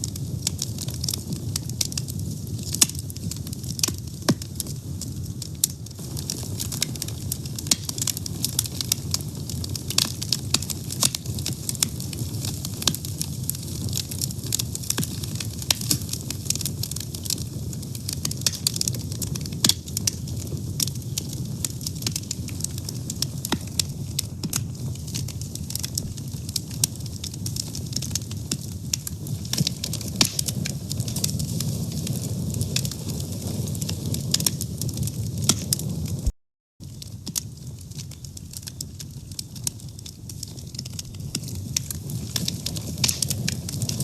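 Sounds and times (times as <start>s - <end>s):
fire crackling and popping: 0.0s - 44.0s
low rush of flames: 0.0s - 44.0s.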